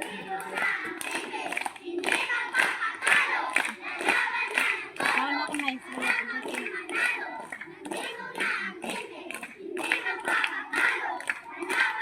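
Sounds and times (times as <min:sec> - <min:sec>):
rhythmic hand clapping: 0:00.0 - 0:12.0
voices: 0:00.0 - 0:12.0.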